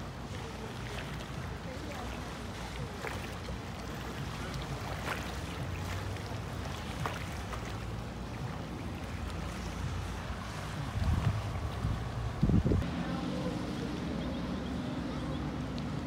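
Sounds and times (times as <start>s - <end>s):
outboard engine droning: 0.0s - 16.0s
water noise: 0.0s - 16.0s.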